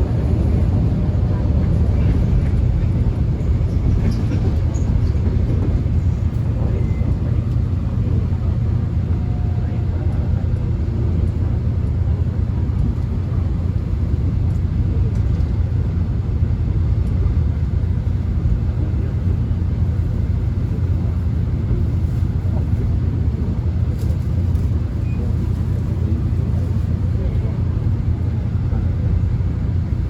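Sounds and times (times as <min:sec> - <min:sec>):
subway train rumble: 0:00.0 - 0:30.0.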